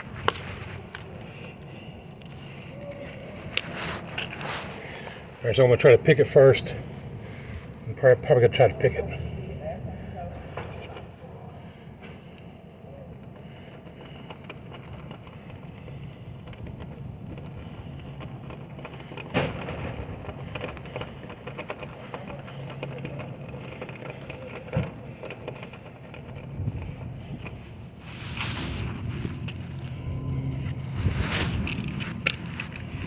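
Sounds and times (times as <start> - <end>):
lock picks clicking and scraping: 0.0 - 8.9, 10.5 - 11.3, 12.0 - 33.0.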